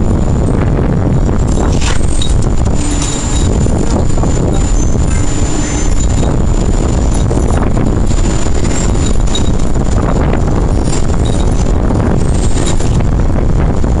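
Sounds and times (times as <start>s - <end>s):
thunder rumble: 0.0s - 14.0s
wind buffeting microphone: 0.0s - 14.0s.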